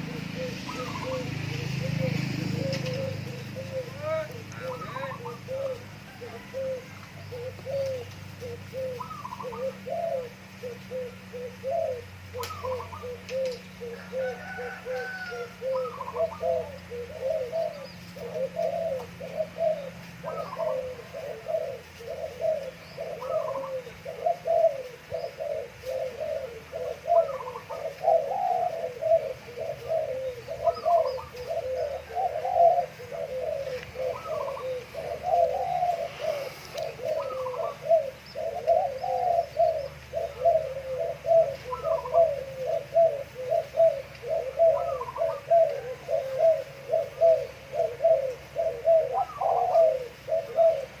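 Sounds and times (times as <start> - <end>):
doves cooing: 0.0 - 51.0.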